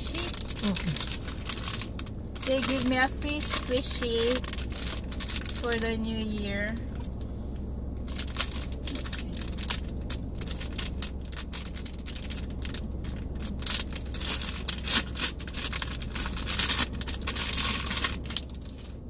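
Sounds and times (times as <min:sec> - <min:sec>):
plastic bag crinkling: 0:00.0 - 0:07.0, 0:08.1 - 0:19.0
car low hum: 0:00.0 - 0:19.0.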